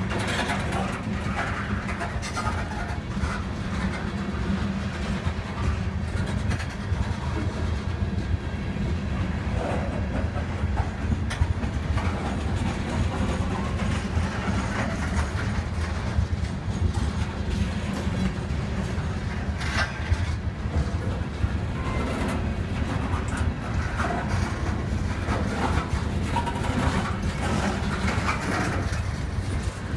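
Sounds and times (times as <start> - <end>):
train cars clicking and clanking: 0.0 - 29.9
train wheels rumbling on rails: 0.0 - 29.9.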